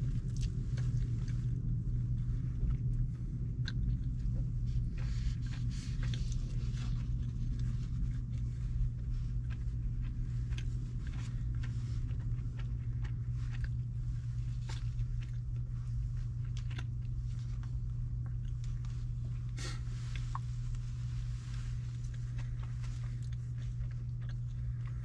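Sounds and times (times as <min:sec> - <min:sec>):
low car cabin hum: 0:00.0 - 0:25.0
person chewing food: 0:00.0 - 0:25.0.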